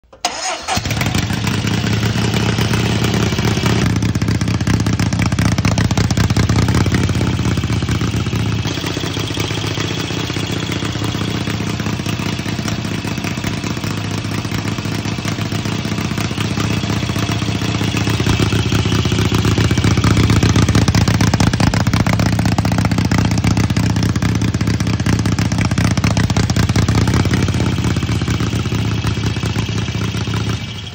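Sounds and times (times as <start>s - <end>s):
motorcycle engine running: 0.4s - 30.9s.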